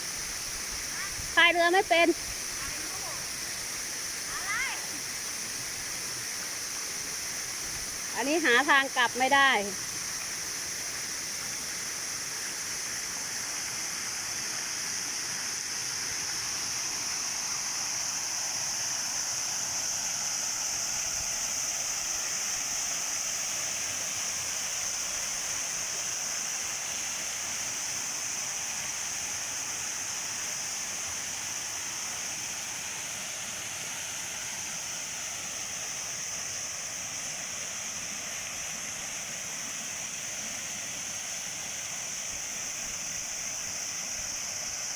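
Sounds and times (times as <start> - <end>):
waterfall pouring into pond: 0.0 - 44.9.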